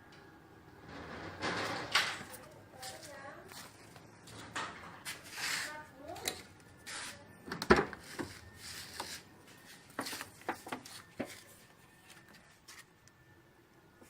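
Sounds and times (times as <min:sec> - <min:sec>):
faint background noise: 0:00.0 - 0:14.0.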